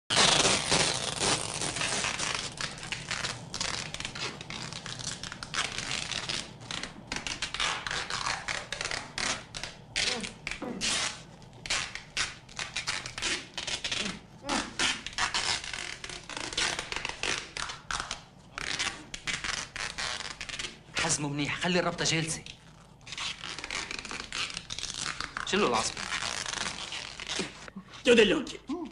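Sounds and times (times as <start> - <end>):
adhesive tape ripping off roll: 0.1 - 27.7
tape crinkling: 0.1 - 27.9.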